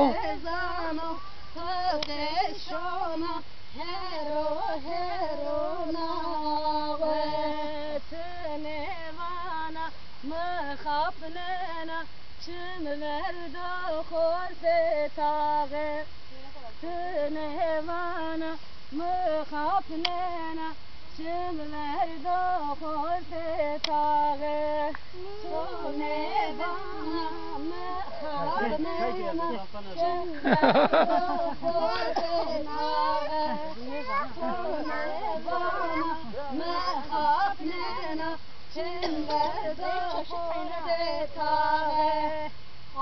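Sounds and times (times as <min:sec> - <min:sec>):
women singing: 0:00.0 - 0:43.0.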